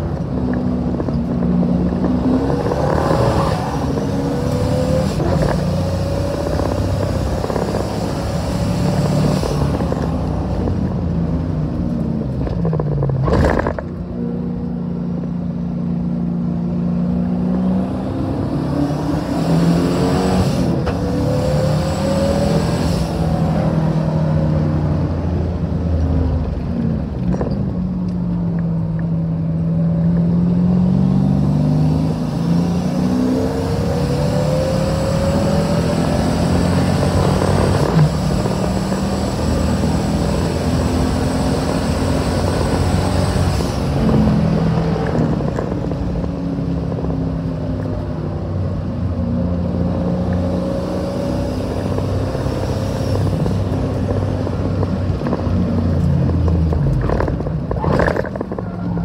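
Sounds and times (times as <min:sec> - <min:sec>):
racing car engine: 0:00.0 - 0:59.0.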